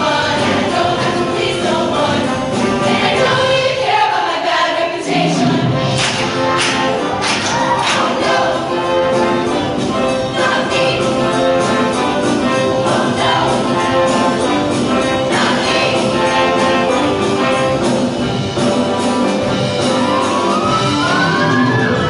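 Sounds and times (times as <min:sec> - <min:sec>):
choir singing: 0:00.0 - 0:18.3
band with brass: 0:00.0 - 0:22.0.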